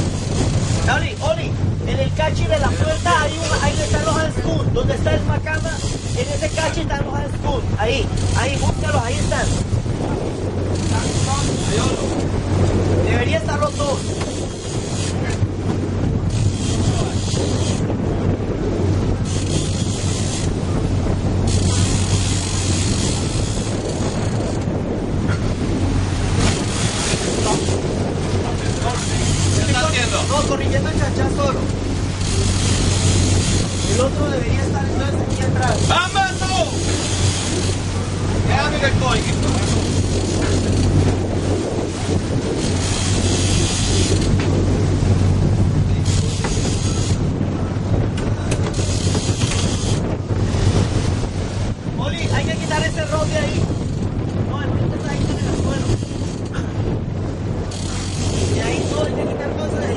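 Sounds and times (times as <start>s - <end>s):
boat engines humming: 0.0s - 59.9s
water washing at stern: 0.0s - 59.9s
wind gusting across microphone: 0.0s - 59.9s.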